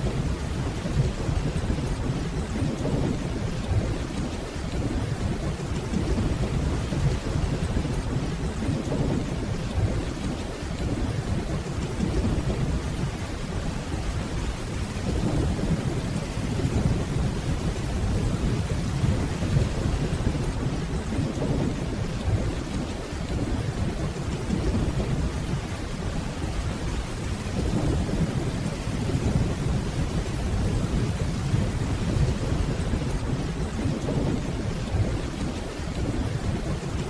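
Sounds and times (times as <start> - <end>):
distant thunder rumble: 0.0 - 37.0
heavy rain: 0.0 - 37.0.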